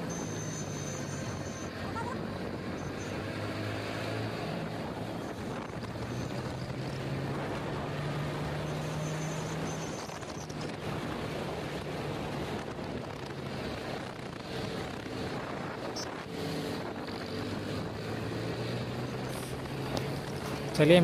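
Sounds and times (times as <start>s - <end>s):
motorcycle engine humming: 0.0s - 21.0s
trucks passing: 0.0s - 21.0s
wind rushing over microphone: 1.2s - 21.0s.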